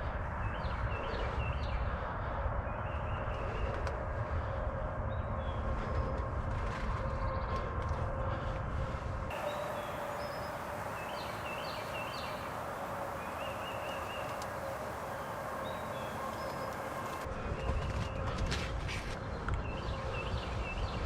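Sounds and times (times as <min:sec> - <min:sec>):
songbirds chirping: 0:00.0 - 0:08.6, 0:09.3 - 0:21.0
steady outdoor hiss: 0:00.0 - 0:21.0.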